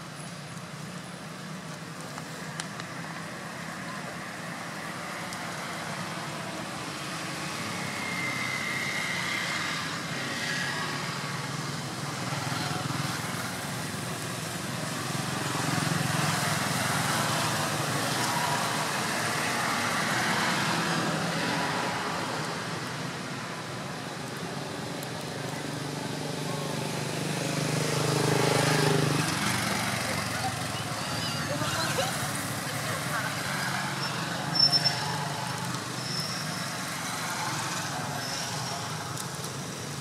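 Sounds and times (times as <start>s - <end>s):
road traffic noise: 0.0s - 40.0s.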